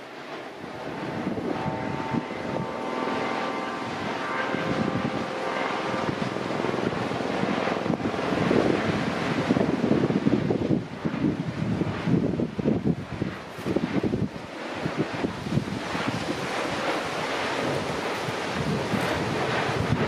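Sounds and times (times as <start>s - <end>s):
faint high whine: 0.0s - 20.0s
lava rushing and crackling: 0.0s - 20.0s.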